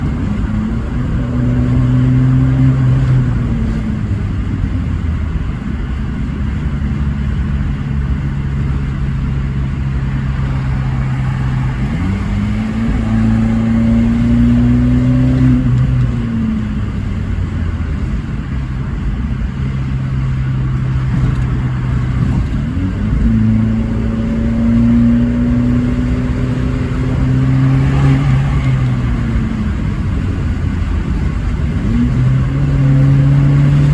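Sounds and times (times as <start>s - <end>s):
car engine accelerating: 0.0s - 33.9s.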